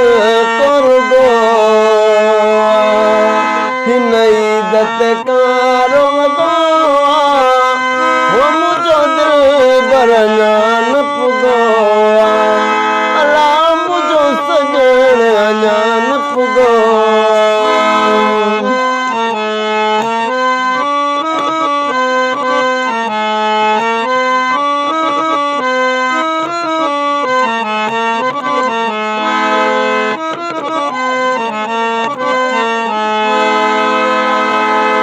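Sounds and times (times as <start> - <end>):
free-reed keyboard melody: 0.0 - 35.0.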